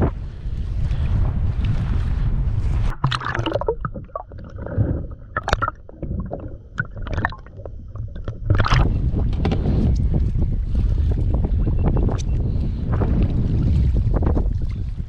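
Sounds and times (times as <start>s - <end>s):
wind on microphone: 0.0s - 15.0s
water sloshing against kayak: 0.3s - 11.6s, 12.2s - 15.0s.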